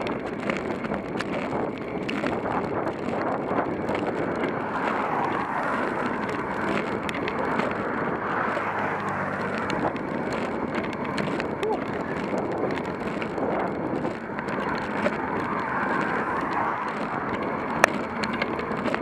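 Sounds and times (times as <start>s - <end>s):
truck engine hum: 0.0s - 19.0s
wind rushing over microphone: 0.0s - 19.0s.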